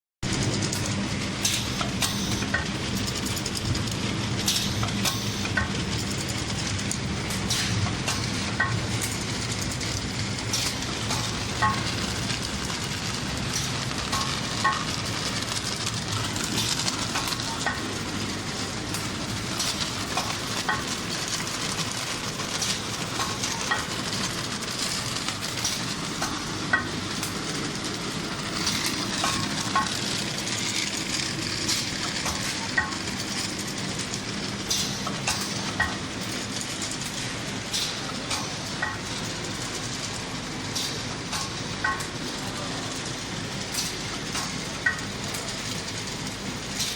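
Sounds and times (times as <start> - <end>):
machine clattering and hissing: 0.3 - 46.9.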